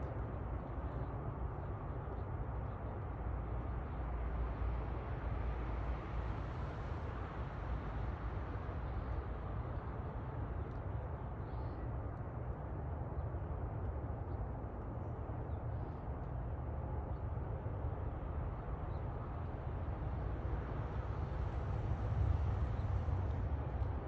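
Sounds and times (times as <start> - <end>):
low outdoor background rumble: 0.0 - 24.0.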